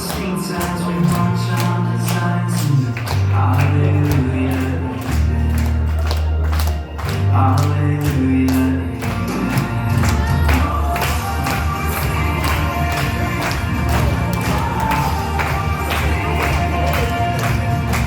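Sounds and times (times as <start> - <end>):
person singing: 0.0 - 5.8, 7.1 - 18.0.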